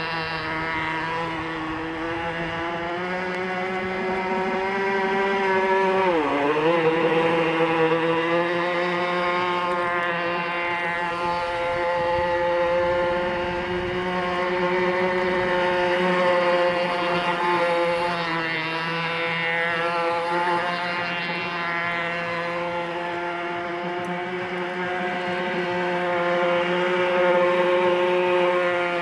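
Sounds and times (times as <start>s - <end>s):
model speedboat motor whining: 0.0s - 29.0s.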